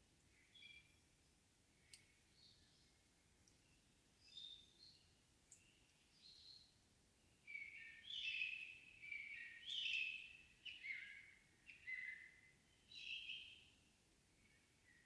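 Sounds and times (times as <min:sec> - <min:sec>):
songbirds singing: 0:01.8 - 0:15.0.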